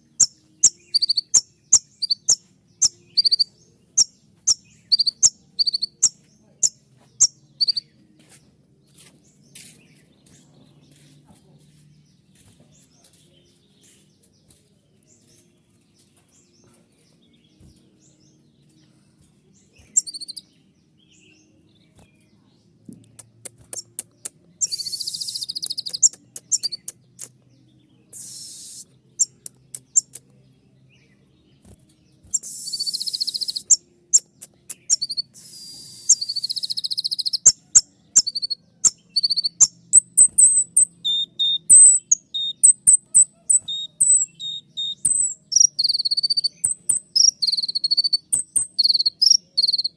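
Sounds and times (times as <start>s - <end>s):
sunbird high-pitched song: 0.0s - 49.9s.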